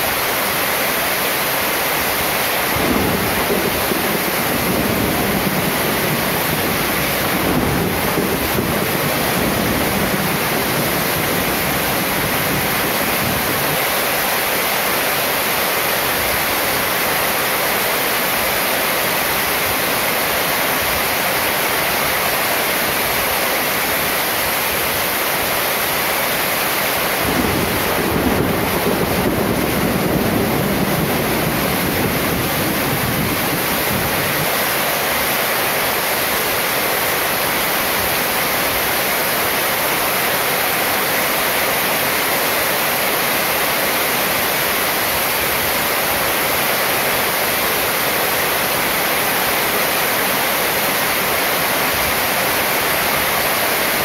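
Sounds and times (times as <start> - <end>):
heavy rain on metal roof: 0.0 - 54.0
water pouring off roof: 0.0 - 54.0.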